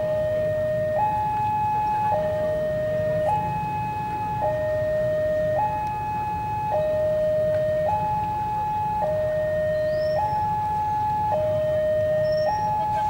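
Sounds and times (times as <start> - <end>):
two-tone crossing warning siren: 0.0 - 13.0.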